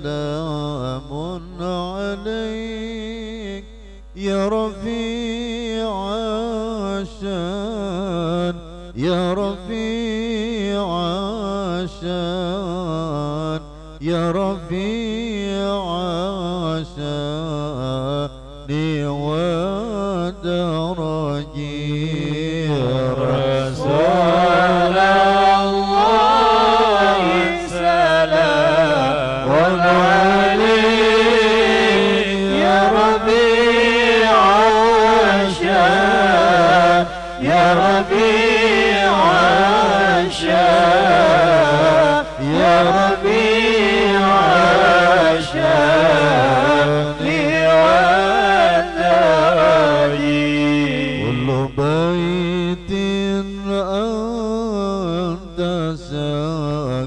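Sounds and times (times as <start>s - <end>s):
man chanting into a microphone: 0.0s - 57.0s.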